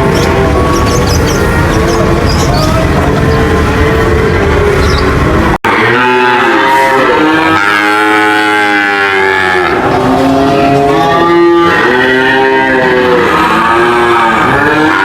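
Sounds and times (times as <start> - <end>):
cow mooing: 0.0 - 15.0.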